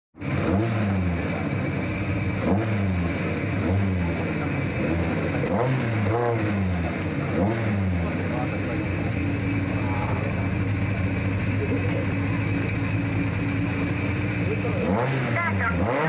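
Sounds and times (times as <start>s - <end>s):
car engine revving: 0.2s - 16.0s.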